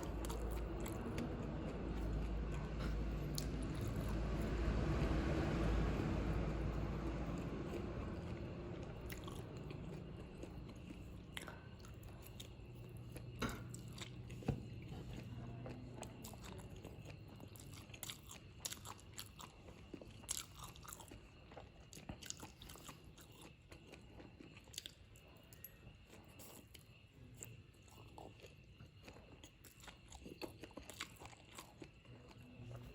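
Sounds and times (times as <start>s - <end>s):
chewing with mouth clicks: 0.0s - 32.9s
faint hum: 0.0s - 32.9s.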